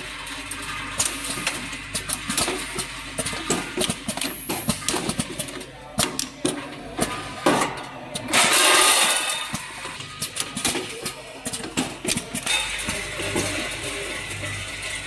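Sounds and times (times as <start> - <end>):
packing machine clicks and clatter: 0.0 - 15.0.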